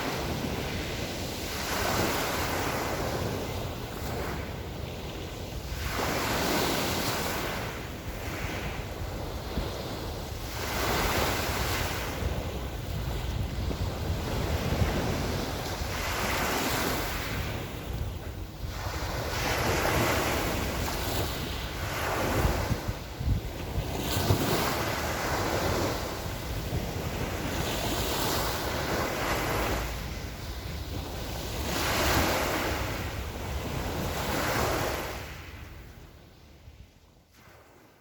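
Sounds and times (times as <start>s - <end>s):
small waves washing onto shore: 0.0s - 36.0s
wind buffeting microphone: 0.0s - 37.8s.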